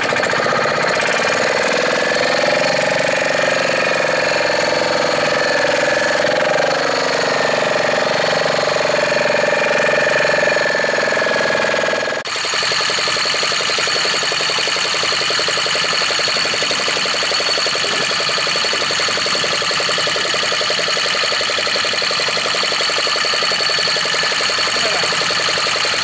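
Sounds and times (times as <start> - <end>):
diesel boat engine chugging: 0.0 - 26.0
engine whine: 0.0 - 26.0.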